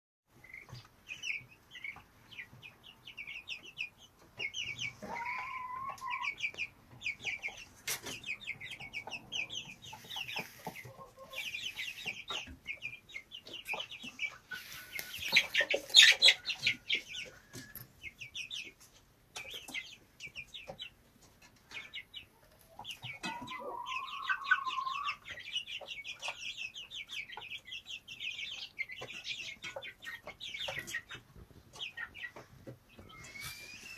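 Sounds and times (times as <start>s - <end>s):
chicks peeping: 0.3s - 33.9s
hens clucking: 0.3s - 33.9s.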